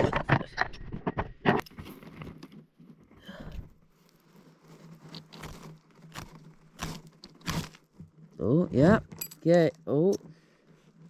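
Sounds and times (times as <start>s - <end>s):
flint and steel scraping: 1.6s - 11.0s.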